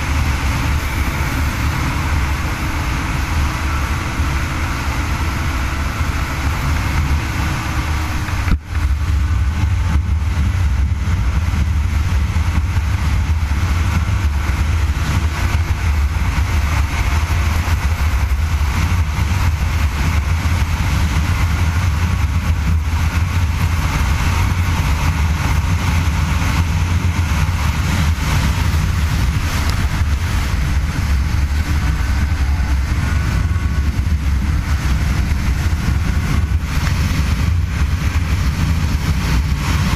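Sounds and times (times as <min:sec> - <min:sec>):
snowmobile engine rumble: 0:00.0 - 0:39.9.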